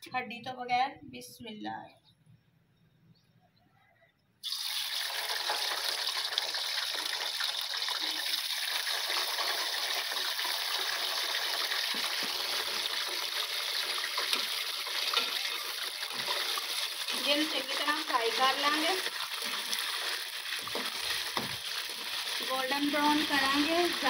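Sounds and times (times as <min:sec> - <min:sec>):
meat sizzling in hot fat: 0:04.4 - 0:24.0.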